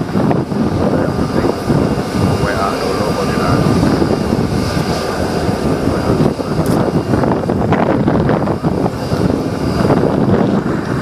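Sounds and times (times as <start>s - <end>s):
aircraft engine: 0.0s - 11.0s
wind buffeting microphone: 0.0s - 11.0s.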